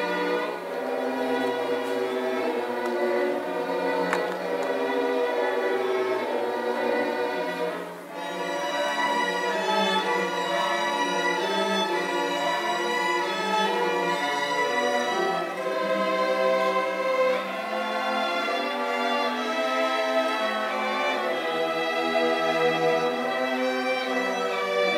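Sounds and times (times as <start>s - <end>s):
string orchestra playing bowed notes: 0.0s - 24.9s.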